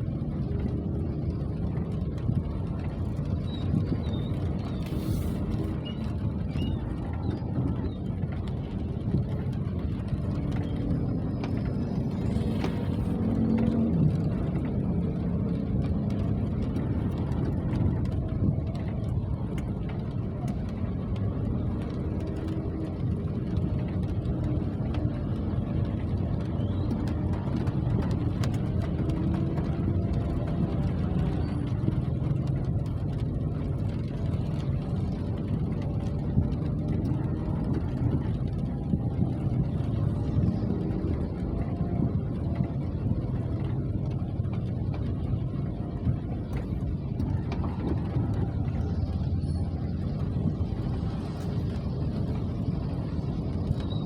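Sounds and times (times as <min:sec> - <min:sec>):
steady rain rumble: 0:00.0 - 0:54.0.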